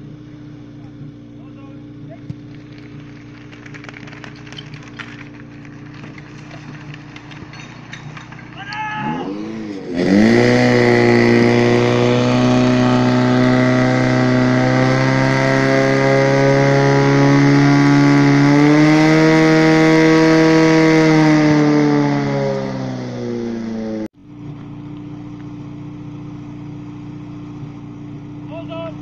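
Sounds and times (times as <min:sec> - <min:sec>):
pump engine revving: 0:00.0 - 0:24.1.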